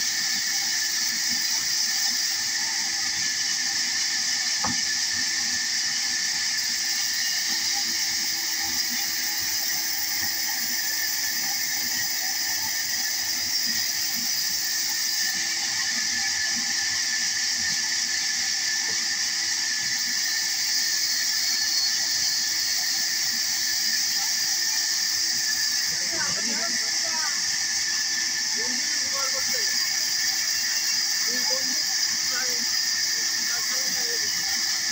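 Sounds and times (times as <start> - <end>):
band saw cutting wood: 0.0 - 34.9.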